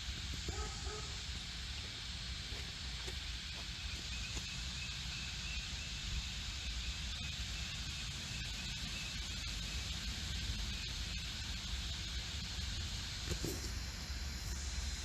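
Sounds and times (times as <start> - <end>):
even hiss: 0.0 - 15.0.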